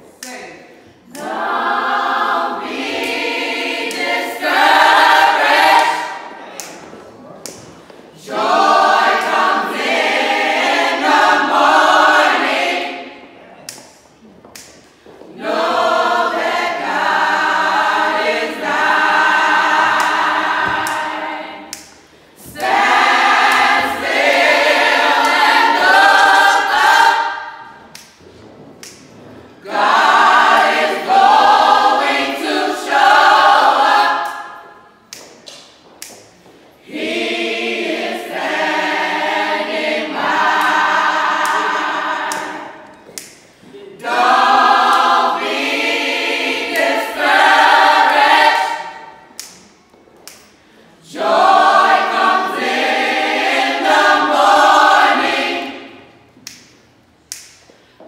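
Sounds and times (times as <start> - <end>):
group singing a cappella: 0.6 - 13.9, 14.6 - 28.2, 28.8 - 35.3, 36.8 - 57.7.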